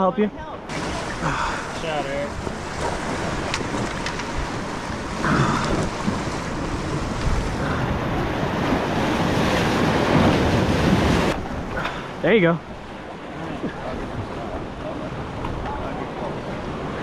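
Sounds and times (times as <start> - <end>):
sea waves washing against rocks: 0.6 - 17.0
wind buffeting microphone: 0.6 - 17.0.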